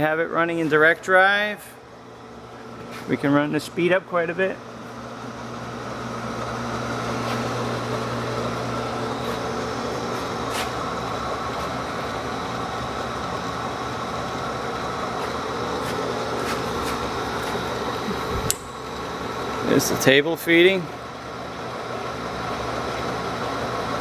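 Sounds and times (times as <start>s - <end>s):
milling machine motor hum: 0.6s - 24.0s.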